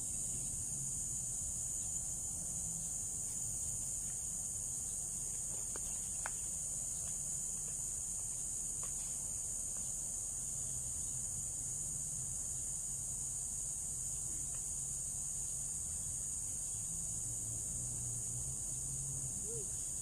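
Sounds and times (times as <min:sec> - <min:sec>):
crickets chorus: 0:00.0 - 0:20.0.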